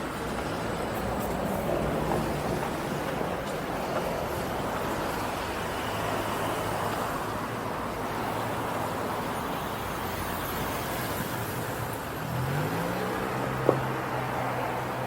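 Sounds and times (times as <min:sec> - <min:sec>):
passing vehicles: 0:00.0 - 0:15.0.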